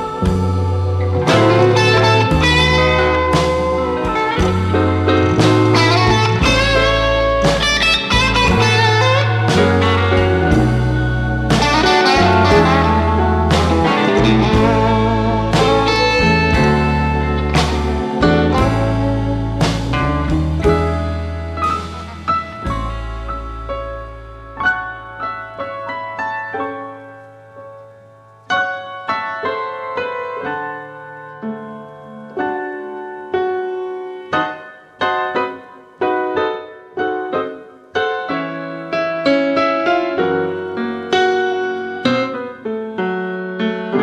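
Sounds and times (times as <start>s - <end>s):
gentle solo piano melody: 0.0s - 44.0s.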